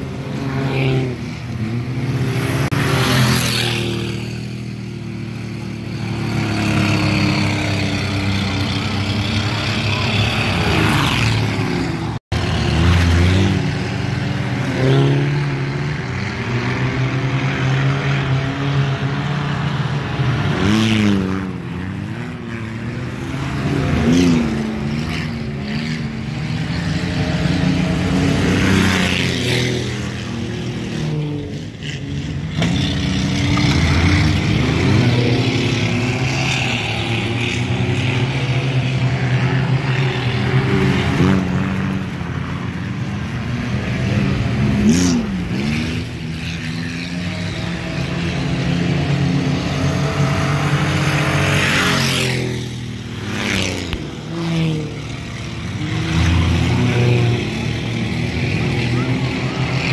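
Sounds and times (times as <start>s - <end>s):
race car engines passing by: 0.0s - 59.9s.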